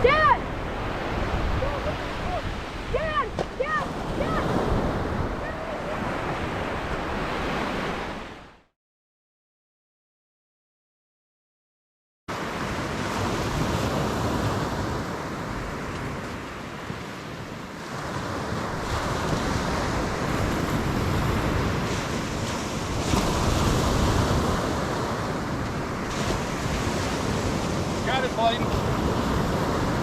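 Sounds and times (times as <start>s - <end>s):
ocean surf washing onto beach: 0.0s - 8.5s, 12.3s - 30.0s
wind rumbling on microphone: 0.0s - 8.5s, 12.5s - 30.0s.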